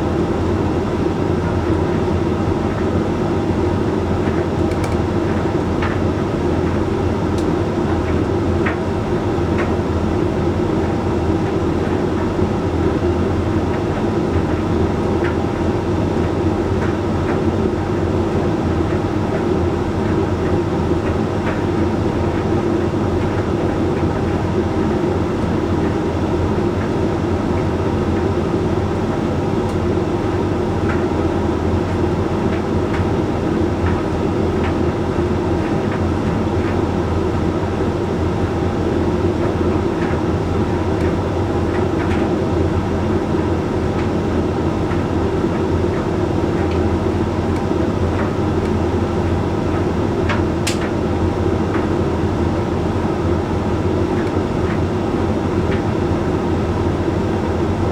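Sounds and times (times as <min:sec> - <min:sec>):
tumble dryer drum rumbling: 0:00.1 - 0:57.9.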